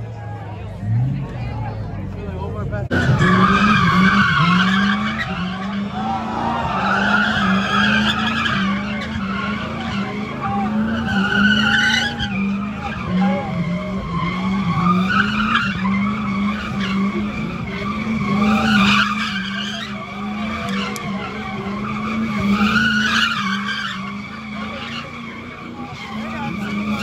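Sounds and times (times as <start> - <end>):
car engine at high revs: 0.6 - 27.0
tyres squealing: 2.9 - 27.0.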